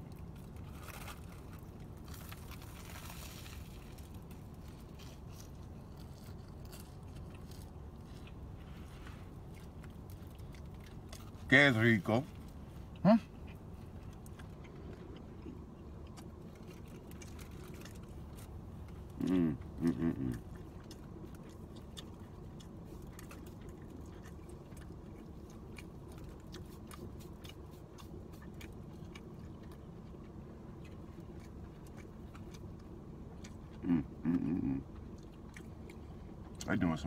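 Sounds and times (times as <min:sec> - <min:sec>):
man chewing food: 0:00.0 - 0:37.0
steady low hum: 0:00.0 - 0:37.0.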